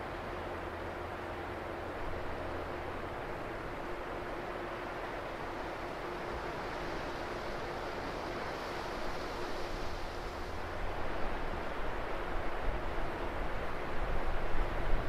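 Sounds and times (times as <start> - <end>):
faint steady hum: 0.0 - 15.0
waves and wind over sea: 0.0 - 15.0.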